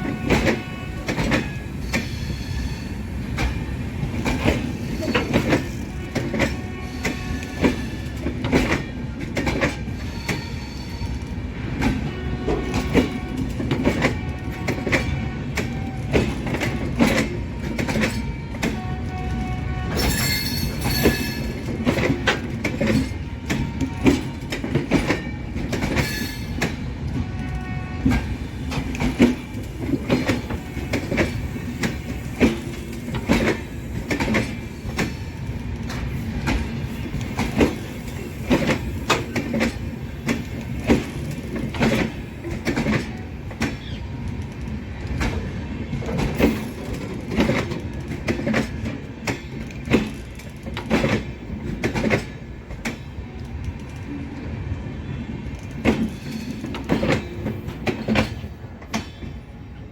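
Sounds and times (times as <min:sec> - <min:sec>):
train rumbling on track: 0:00.0 - 0:59.9
wheels clacking over rail joints: 0:03.3 - 0:54.4.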